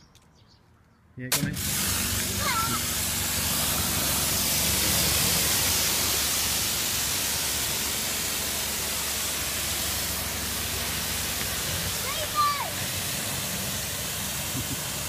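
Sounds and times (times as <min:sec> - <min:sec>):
pressure washer jet hissing: 0:01.3 - 0:15.0
washer motor humming: 0:01.5 - 0:15.0.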